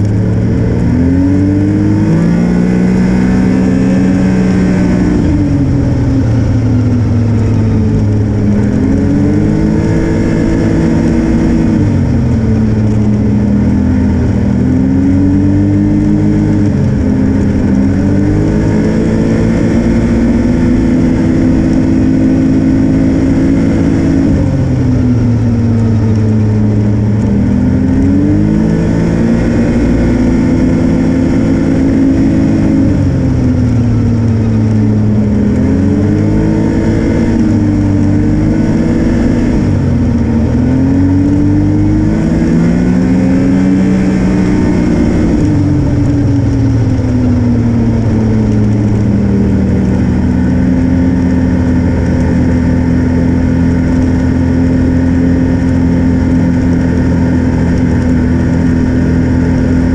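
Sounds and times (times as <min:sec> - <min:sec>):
snowmobile engine: 0:00.0 - 0:59.9.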